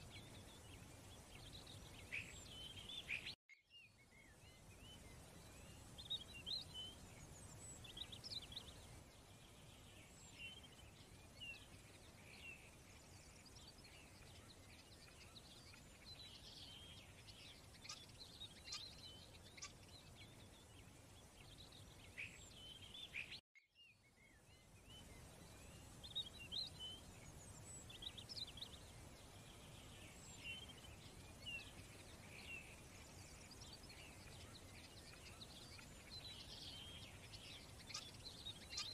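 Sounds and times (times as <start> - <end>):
faint bird chirping: 0.0 - 38.9
low steady hiss: 0.0 - 38.9.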